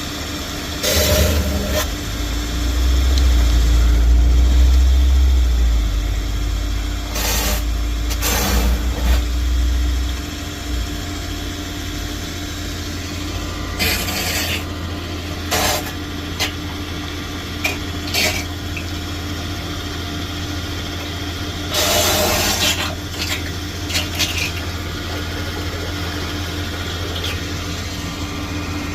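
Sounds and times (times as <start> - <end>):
engine droning: 0.6 - 21.2, 22.6 - 28.9.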